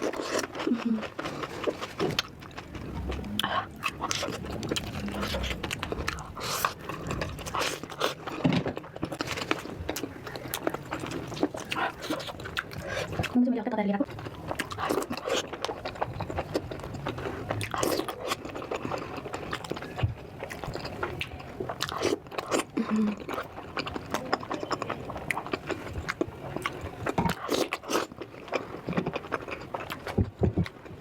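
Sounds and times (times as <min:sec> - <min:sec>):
chewing crunchy food: 0:00.0 - 0:13.4, 0:14.0 - 0:31.0.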